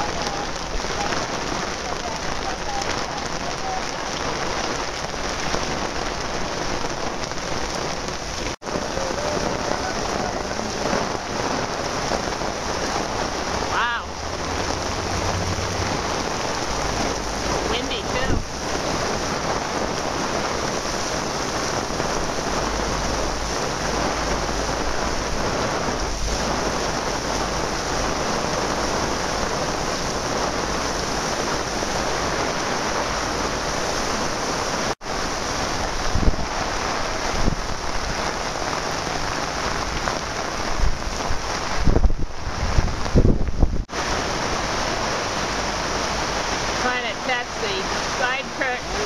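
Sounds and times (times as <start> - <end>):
thunderstorm rain and wind hiss: 0.0 - 49.0
wind gusts buffeting microphone: 0.0 - 49.0.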